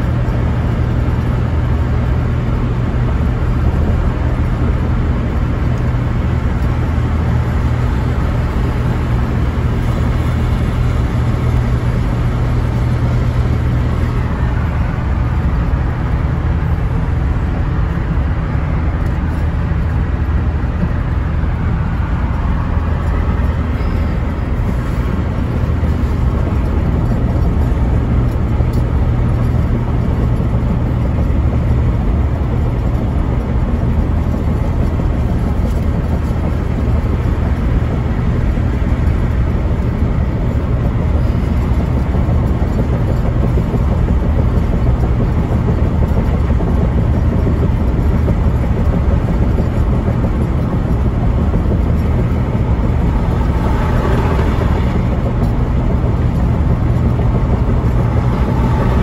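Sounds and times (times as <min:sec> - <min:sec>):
car road noise drone: 0:00.0 - 0:59.0.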